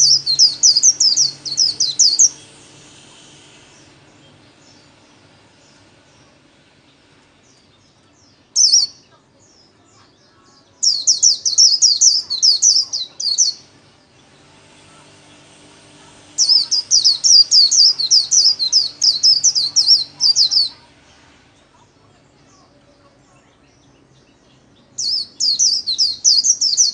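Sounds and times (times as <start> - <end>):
bird twittering song: 0.0 - 15.6, 16.3 - 26.9.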